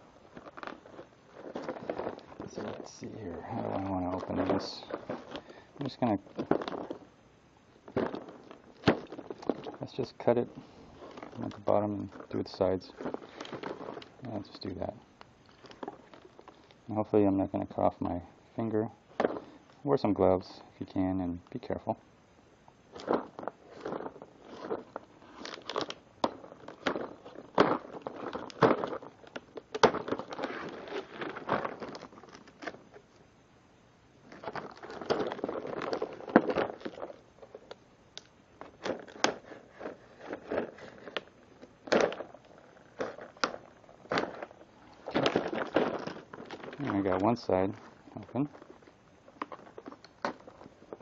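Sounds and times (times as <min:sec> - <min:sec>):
plastic packaging crackling: 0:00.0 - 0:07.1, 0:07.8 - 0:18.2, 0:19.1 - 0:21.8, 0:22.9 - 0:33.2, 0:34.2 - 0:51.0.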